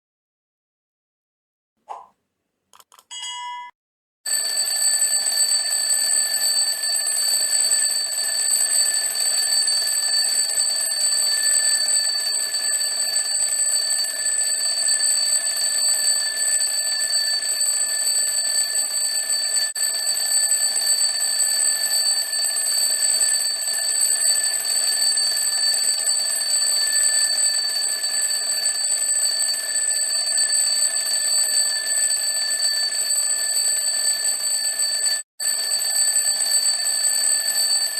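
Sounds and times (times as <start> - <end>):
alarm clock bell ringing: 4.3 - 37.9.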